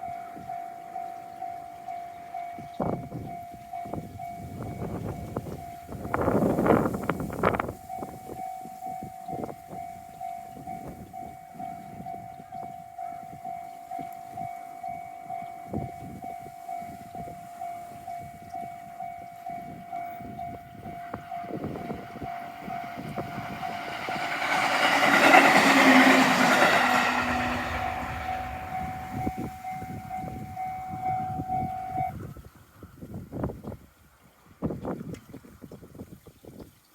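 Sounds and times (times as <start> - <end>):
level-crossing warning bell: 0.0 - 32.2
train passing: 0.0 - 32.2.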